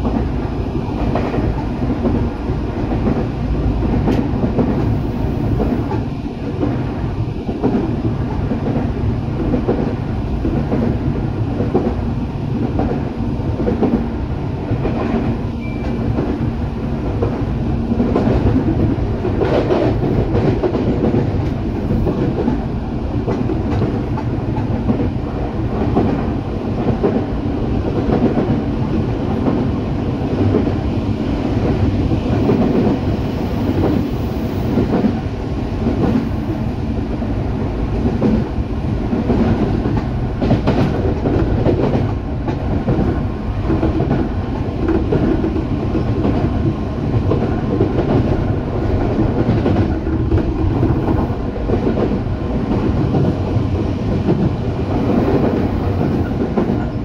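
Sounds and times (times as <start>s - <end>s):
clickety-clack over track: 0.0s - 57.0s
train wheels rumbling on rails: 0.0s - 57.0s.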